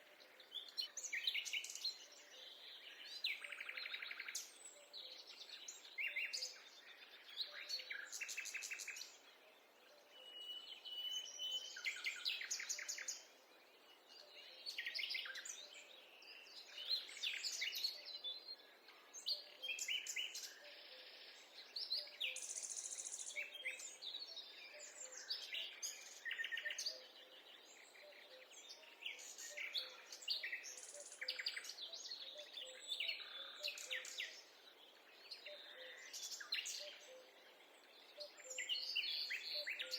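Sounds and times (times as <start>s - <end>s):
wild birds singing: 0.0s - 39.9s.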